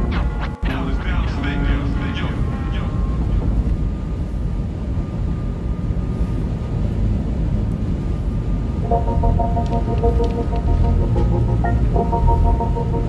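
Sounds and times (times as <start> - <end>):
road and wind noise: 1.6 - 13.0.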